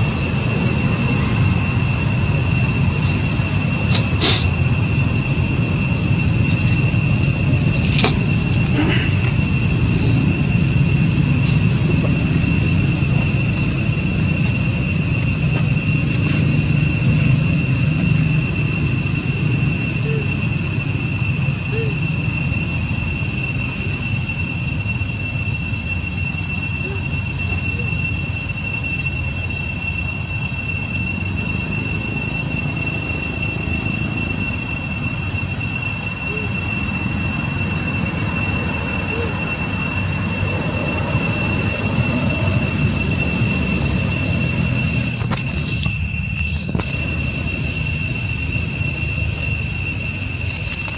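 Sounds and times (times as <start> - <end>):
high-pitched insect drone: 0.0 - 50.9.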